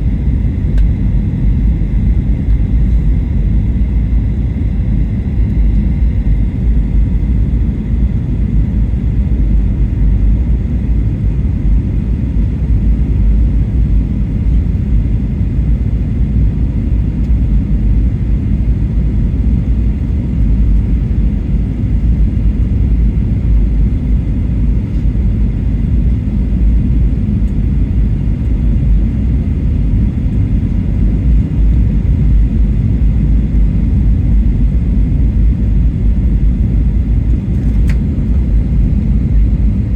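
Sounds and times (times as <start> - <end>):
jet engines rumble in cabin: 0.0 - 39.9.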